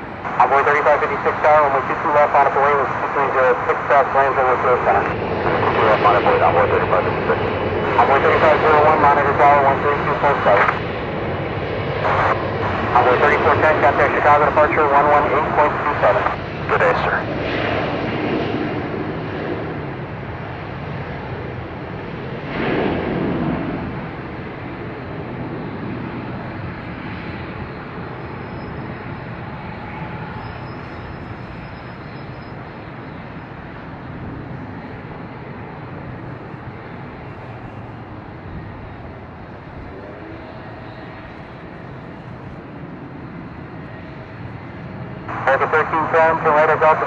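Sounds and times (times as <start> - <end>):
jet airliner engine rumble: 0.0 - 47.0.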